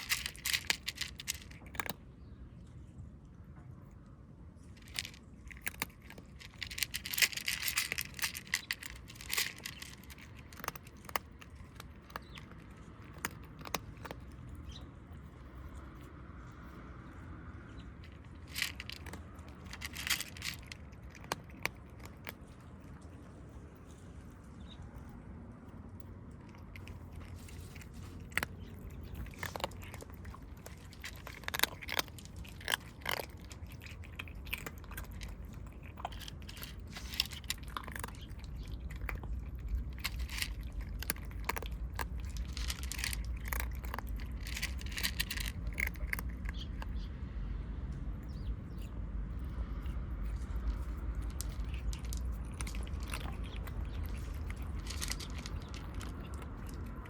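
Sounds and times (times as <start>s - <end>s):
kittens crunching food: 0.0s - 57.0s
steady low rumble: 0.0s - 57.0s.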